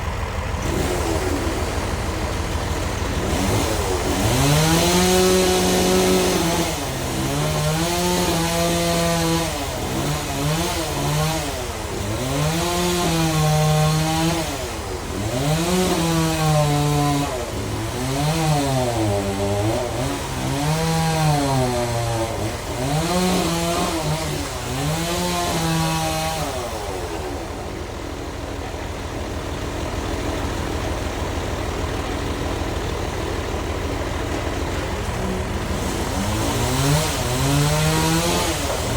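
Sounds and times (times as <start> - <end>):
bandsaw cutting log: 0.0 - 38.9.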